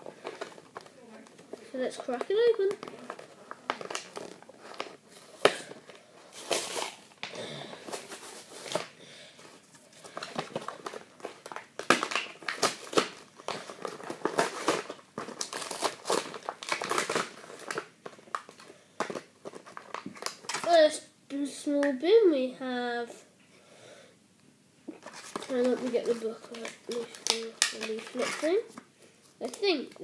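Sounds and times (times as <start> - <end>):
plastic packaging crinkling: 0.0 - 20.8, 24.9 - 30.0.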